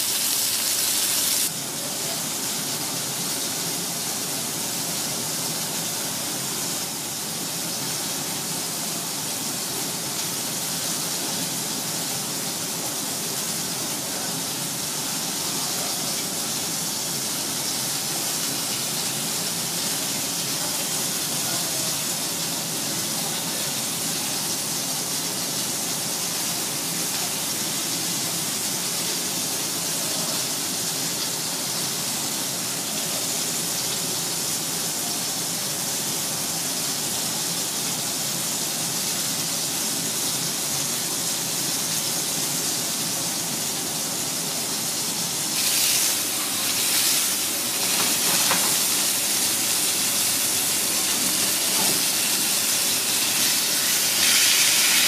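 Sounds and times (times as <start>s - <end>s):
oil sizzling in frying pan: 0.0s - 34.0s, 38.8s - 55.0s
steady rushing hiss: 0.0s - 55.0s.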